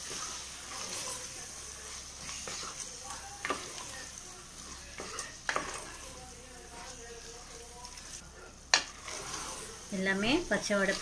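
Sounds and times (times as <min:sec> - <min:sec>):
frying sizzle: 0:00.0 - 0:11.0
wooden spoon stirring: 0:00.0 - 0:11.0.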